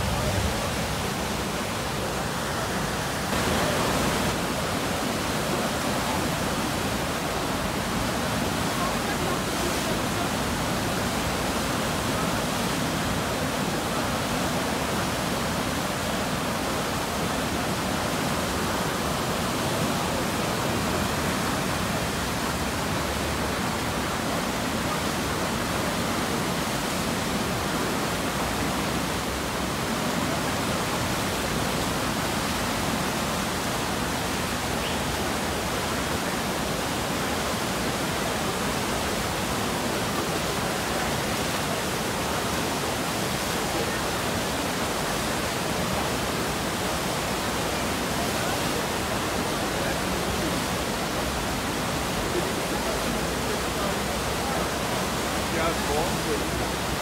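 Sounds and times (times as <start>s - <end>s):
river whitewater churning: 0.0s - 57.0s.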